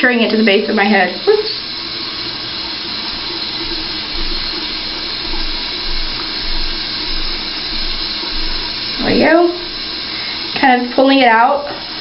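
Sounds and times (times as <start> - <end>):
steady hiss: 1.2 - 12.0.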